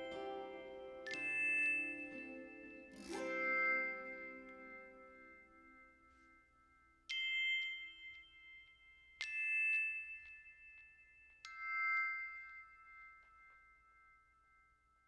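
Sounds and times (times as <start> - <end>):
bell-like struck notes: 0.0 - 15.0.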